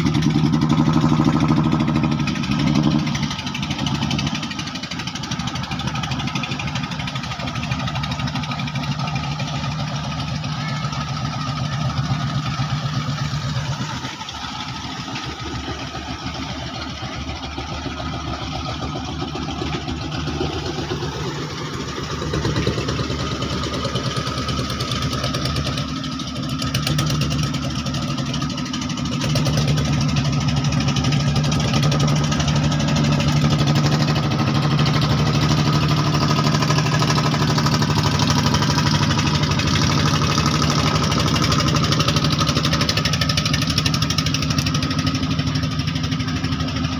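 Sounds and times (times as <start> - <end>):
boat engine chugging: 0.0 - 46.9.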